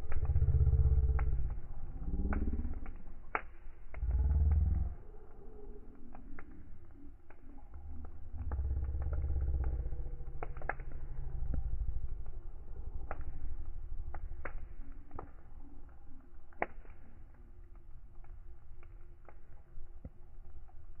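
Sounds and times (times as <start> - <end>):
fire crackling and popping: 0.0 - 21.0
low rumble: 0.0 - 21.0.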